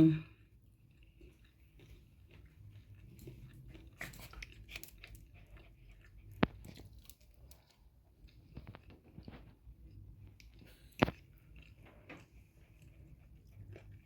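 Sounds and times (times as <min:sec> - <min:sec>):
person chewing food: 0:00.3 - 0:14.0.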